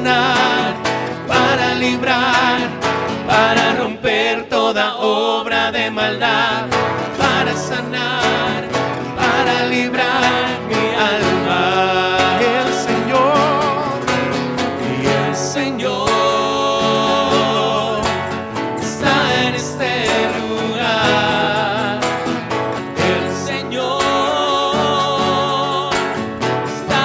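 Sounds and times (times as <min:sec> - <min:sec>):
people singing with vibrato: 0:00.0 - 0:27.0
strummed acoustic guitars: 0:00.0 - 0:27.0.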